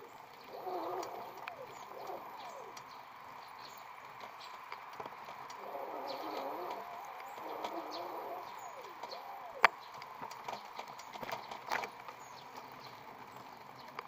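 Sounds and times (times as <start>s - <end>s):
electric bicycle motor whine: 0.0s - 14.0s.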